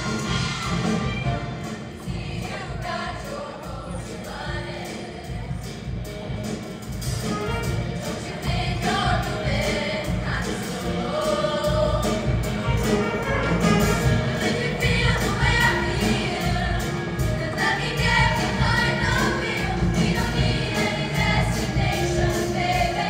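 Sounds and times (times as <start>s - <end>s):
choir singing in harmony: 0.0s - 6.0s, 7.6s - 23.0s
instrumental accompaniment with beat: 0.0s - 23.0s.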